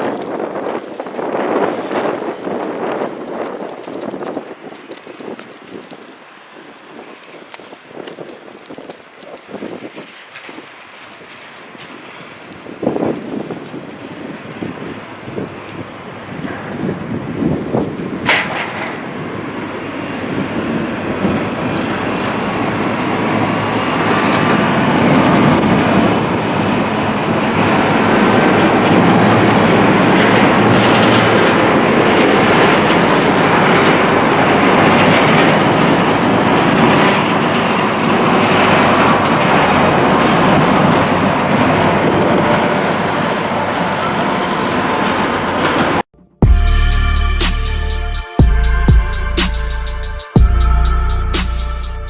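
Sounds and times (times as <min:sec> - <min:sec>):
blizzard wind: 0:00.0 - 0:52.0
road traffic rushing: 0:00.0 - 0:52.0.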